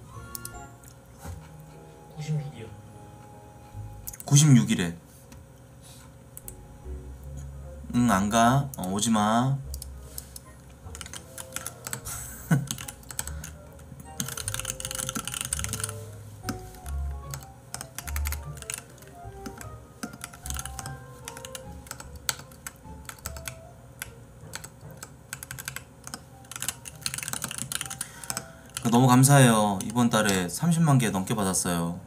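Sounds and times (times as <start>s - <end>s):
soft background music: 0.0s - 32.0s.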